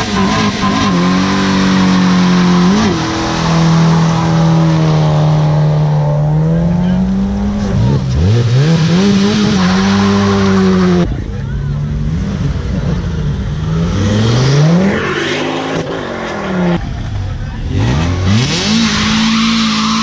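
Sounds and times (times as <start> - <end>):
car engine at high revs: 0.0 - 20.0
second car engine revving: 0.0 - 20.0.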